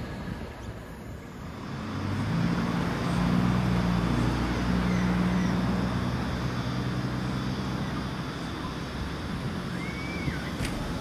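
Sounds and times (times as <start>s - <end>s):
diesel locomotives droning: 0.0s - 11.0s.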